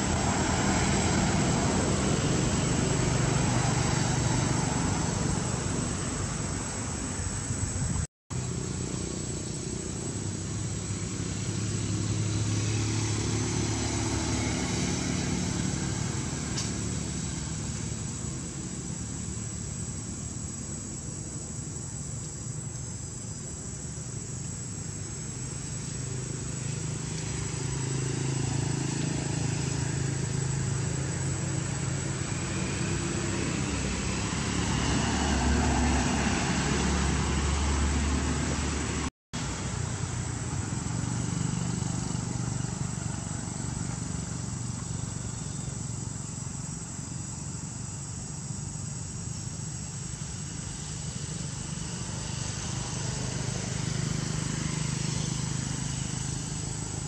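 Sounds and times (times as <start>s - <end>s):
motor vehicles passing: 0.0s - 57.0s.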